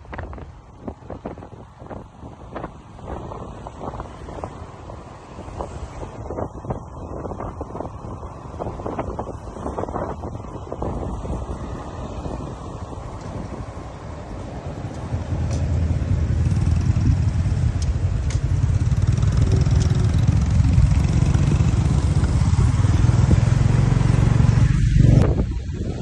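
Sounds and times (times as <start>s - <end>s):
road vehicle rumble: 0.0s - 26.0s
wind buffeting microphone: 0.0s - 26.0s.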